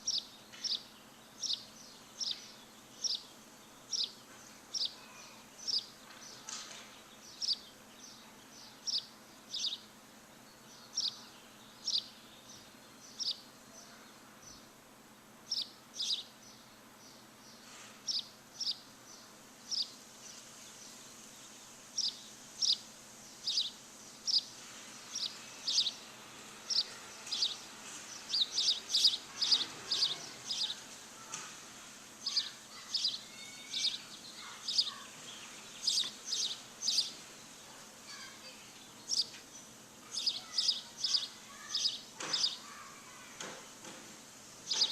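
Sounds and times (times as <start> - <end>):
bird chirping: 0.0 - 14.7, 15.5 - 31.4, 32.2 - 43.2, 44.6 - 44.9
faint steady hiss: 0.0 - 44.9.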